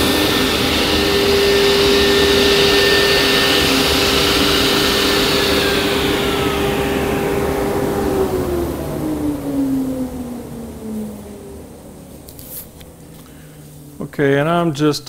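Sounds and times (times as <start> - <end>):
saw spinning down: 0.0 - 12.5
table saw whining: 0.0 - 14.0.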